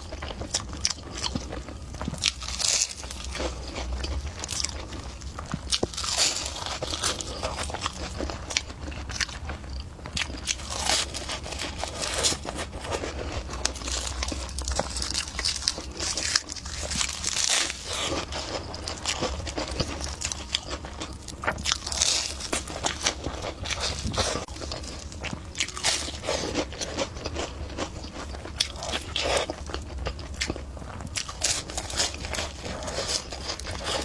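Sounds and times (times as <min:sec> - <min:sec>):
crunchy chewing: 0:00.0 - 0:34.0
steady low hum: 0:00.0 - 0:34.0.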